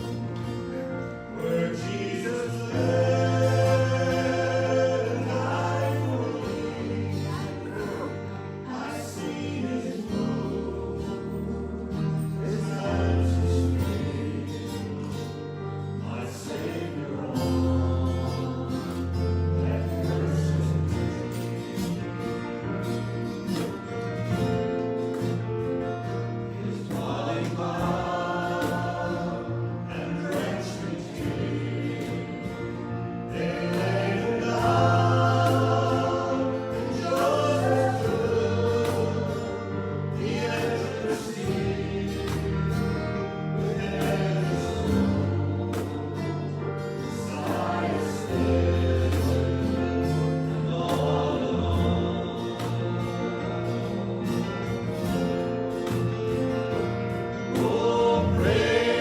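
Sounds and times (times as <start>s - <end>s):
group singing a hymn: 0.0s - 59.0s
instrumental accompaniment: 0.0s - 59.0s.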